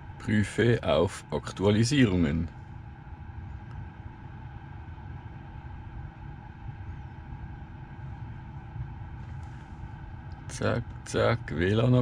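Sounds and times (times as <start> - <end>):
faint even hum: 0.0 - 12.0.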